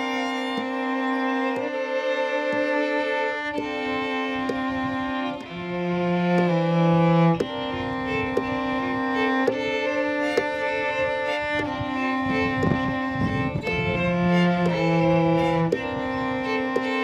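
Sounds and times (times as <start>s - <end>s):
cello and violins bowing chords: 0.0s - 17.0s.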